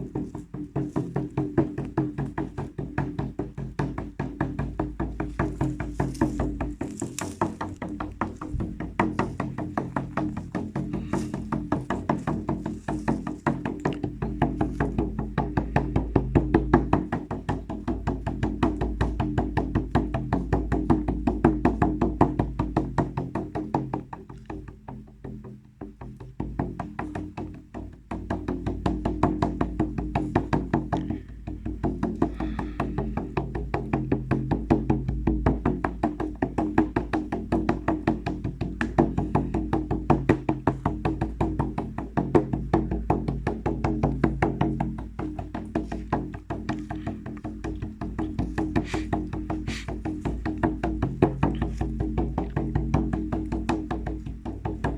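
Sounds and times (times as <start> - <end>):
wood block strikes: 0.0 - 54.9.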